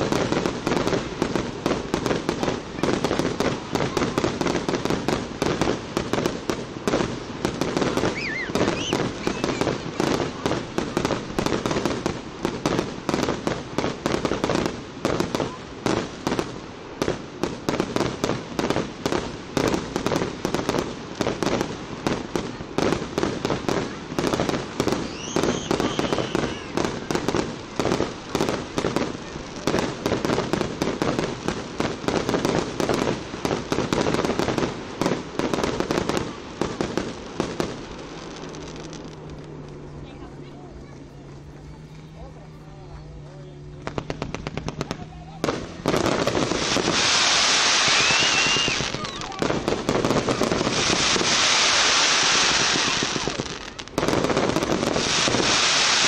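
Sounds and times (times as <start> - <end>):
fireworks popping and banging: 0.0 - 56.0.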